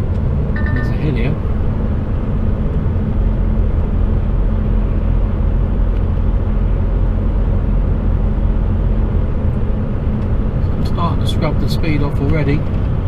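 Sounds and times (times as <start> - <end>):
diesel truck engine rumble: 0.0 - 13.0
road noise: 0.0 - 13.0.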